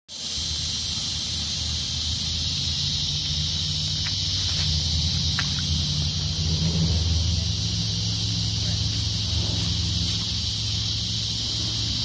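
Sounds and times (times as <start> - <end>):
insects droning: 0.1 - 12.0.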